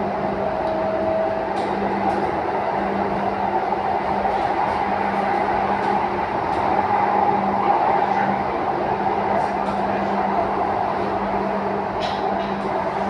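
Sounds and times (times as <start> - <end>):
train wheels rolling on rail: 0.0 - 13.0.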